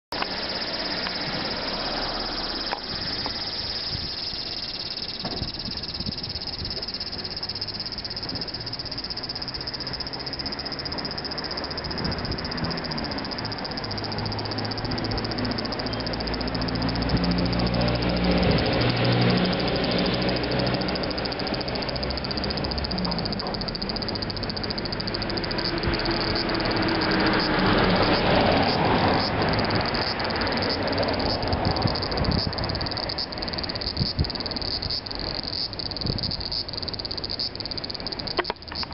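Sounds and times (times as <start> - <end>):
cicadas shrilling: 0.1 - 38.9
vehicle engine passing: 0.2 - 36.3.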